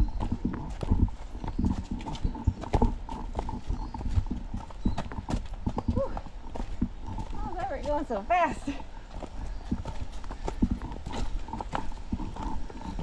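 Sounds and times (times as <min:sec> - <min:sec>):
footsteps on a trail: 0:00.0 - 0:13.0.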